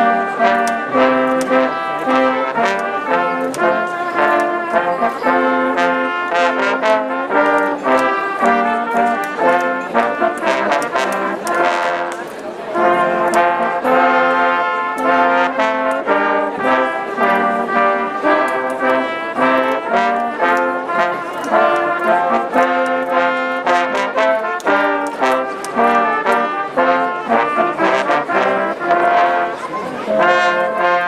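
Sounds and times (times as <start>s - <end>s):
brass band playing: 0.0s - 31.0s.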